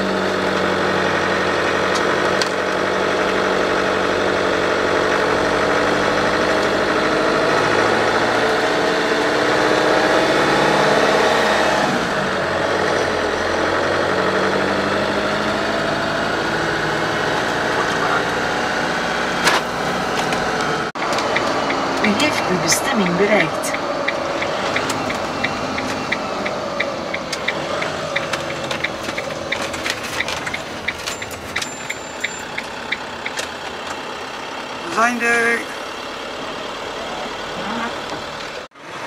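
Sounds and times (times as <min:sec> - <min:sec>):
road noise: 0:00.0 - 0:39.0
van engine drone: 0:00.0 - 0:39.0.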